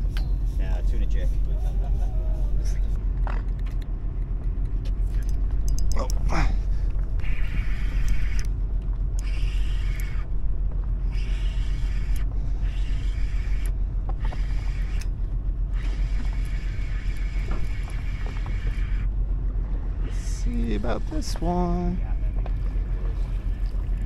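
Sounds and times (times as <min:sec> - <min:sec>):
boat engine rumble: 0:00.0 - 0:24.0.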